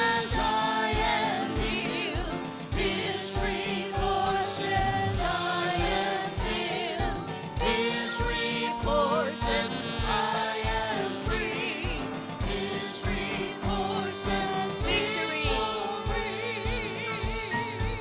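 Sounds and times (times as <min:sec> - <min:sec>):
singers with vibrato: 0:00.0 - 0:18.0
steady drum beat: 0:00.0 - 0:18.0.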